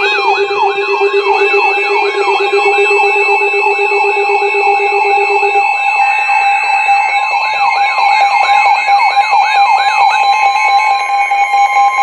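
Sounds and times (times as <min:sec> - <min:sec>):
electronic siren sweeping: 0:00.0 - 0:12.0.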